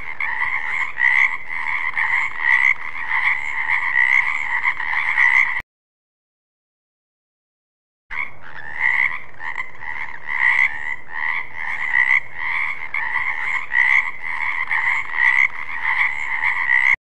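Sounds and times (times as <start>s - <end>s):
frogs croaking: 0.0s - 5.6s, 8.1s - 17.0s.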